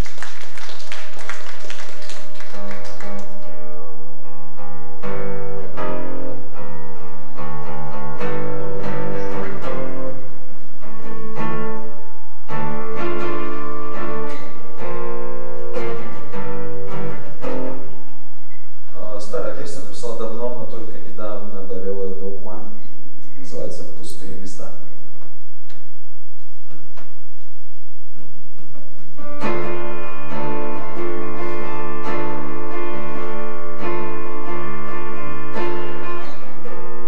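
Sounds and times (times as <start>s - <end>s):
acoustic guitar playing: 0.0s - 37.0s.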